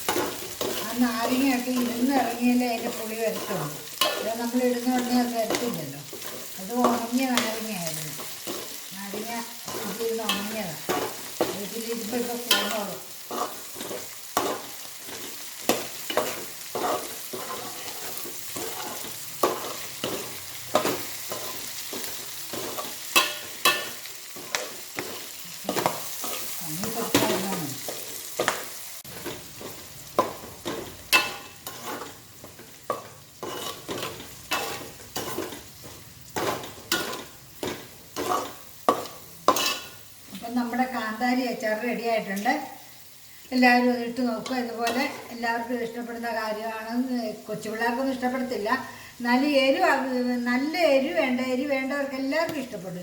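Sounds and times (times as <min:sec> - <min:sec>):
chillies sizzling in hot oil: 0:00.0 - 0:53.0.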